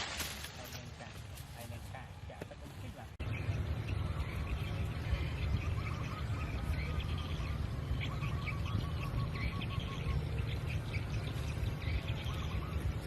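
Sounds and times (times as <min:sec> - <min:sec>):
bird calls: 0:00.0 - 0:13.0
steady low rumble: 0:00.0 - 0:13.0.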